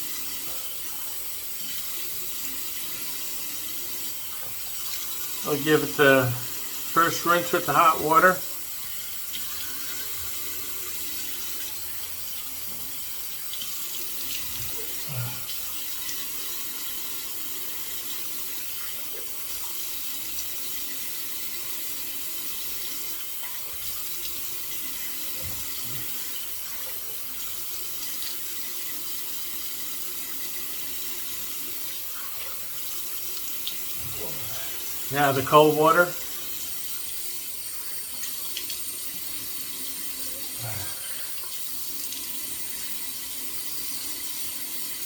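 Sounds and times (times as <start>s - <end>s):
tap water running into sink: 0.0s - 45.0s.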